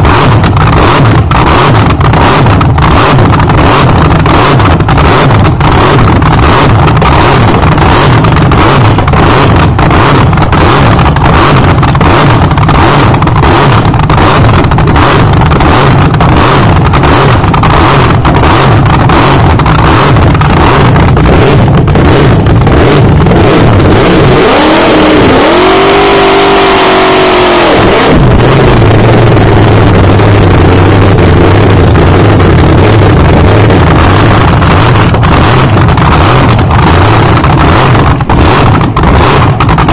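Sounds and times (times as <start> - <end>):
dragster engine running roughly: 0.0 - 39.9
engine revving with whine: 0.0 - 39.9.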